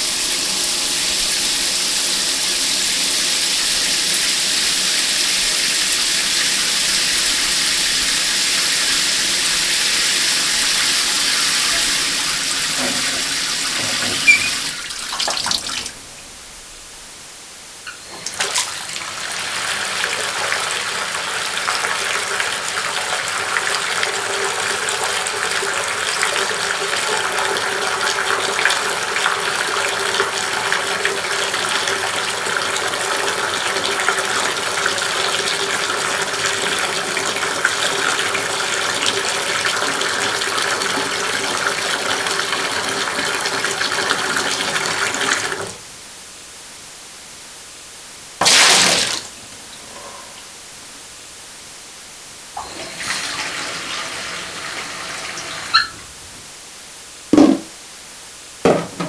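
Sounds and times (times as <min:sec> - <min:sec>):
water running from tap: 0:00.0 - 0:16.1, 0:17.9 - 0:45.8, 0:48.4 - 0:49.4, 0:52.6 - 0:56.3.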